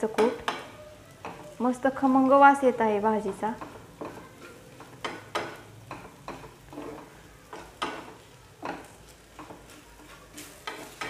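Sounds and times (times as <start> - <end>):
oil sizzling: 0.0 - 11.0
wooden spatula scraping a pan: 0.0 - 11.0.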